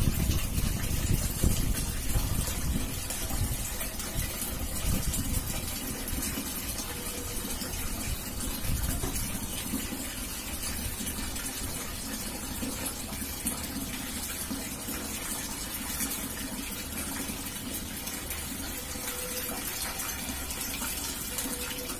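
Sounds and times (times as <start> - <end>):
water running from tap: 0.0 - 21.9.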